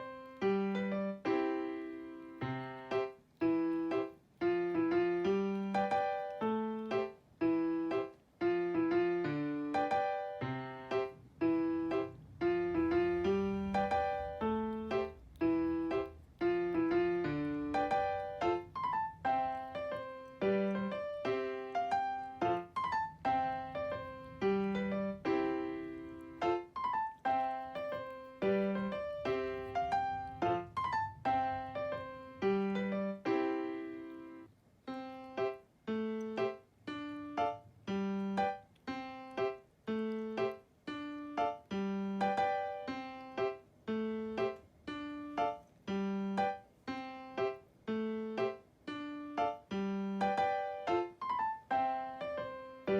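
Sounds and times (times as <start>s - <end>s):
light bouncy piano music: 0.0s - 52.9s.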